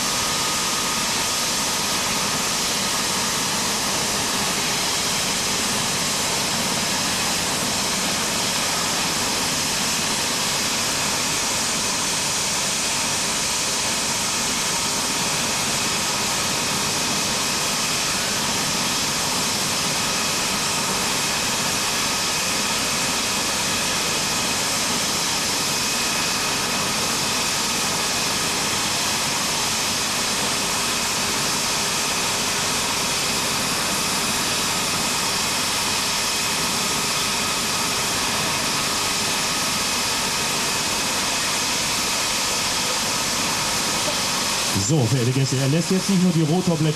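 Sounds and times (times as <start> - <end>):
helicopter turbine whine and rotor: 0.0 - 46.9.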